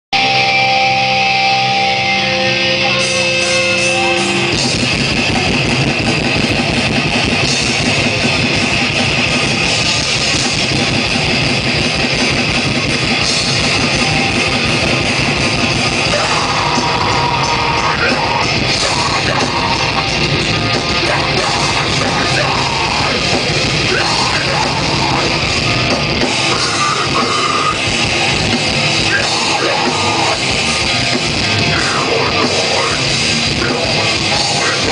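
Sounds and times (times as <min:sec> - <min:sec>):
heavy rock band playing: 0:00.1 - 0:34.9.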